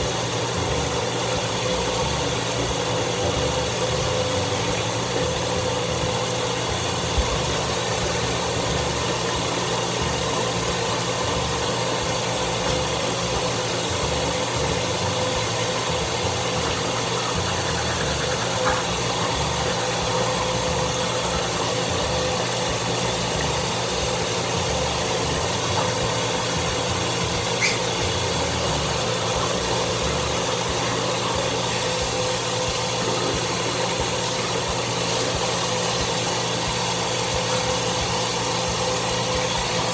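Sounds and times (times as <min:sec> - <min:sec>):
exhaust fan humming: 0:00.0 - 0:39.9.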